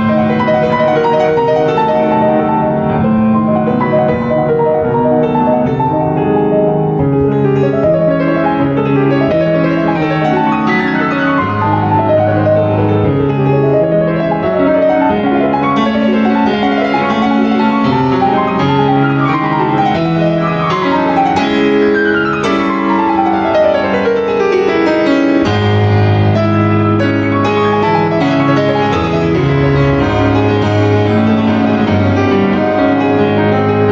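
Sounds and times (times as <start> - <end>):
background piano music: 0.0 - 33.9.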